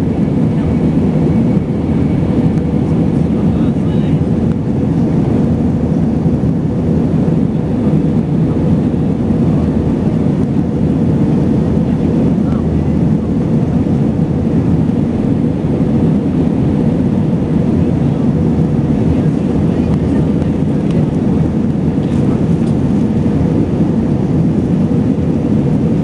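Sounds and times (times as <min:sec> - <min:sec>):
airliner engine rumble in flight: 0:00.0 - 0:26.0.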